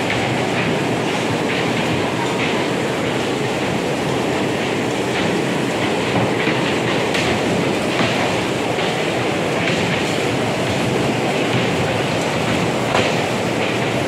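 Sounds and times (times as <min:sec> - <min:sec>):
bumper cars rolling rattle: 0:00.0 - 0:14.0.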